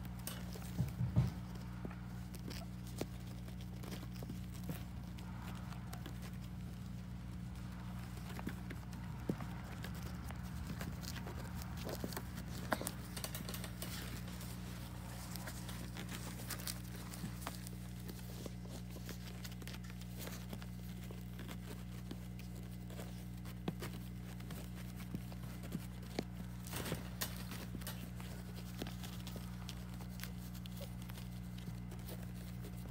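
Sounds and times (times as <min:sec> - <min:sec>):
puppy paws scrabbling on a pad: 0:00.0 - 0:32.9
steady low hum: 0:00.0 - 0:32.9.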